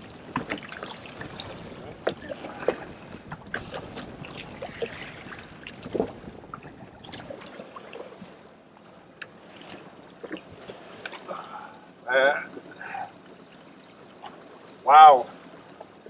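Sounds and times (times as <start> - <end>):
water lapping against boat hull: 0.0 - 16.0.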